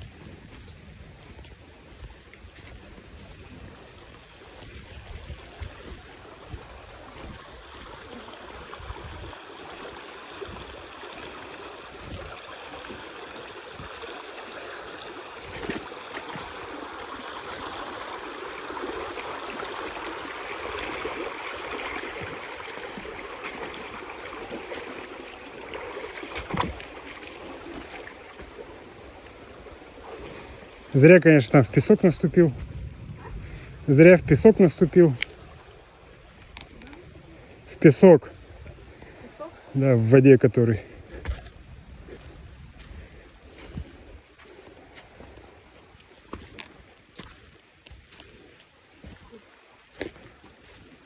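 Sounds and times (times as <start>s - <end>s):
stream water rushing: 0.0s - 51.0s.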